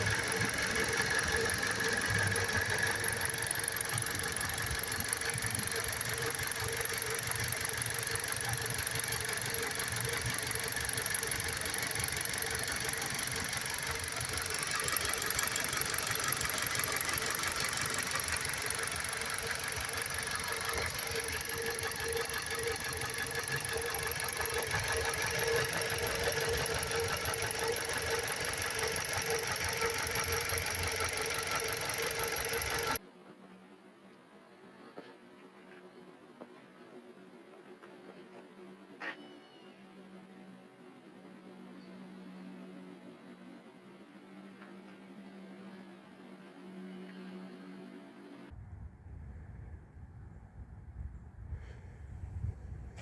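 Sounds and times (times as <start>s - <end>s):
engine humming steadily: 0.0s - 53.0s.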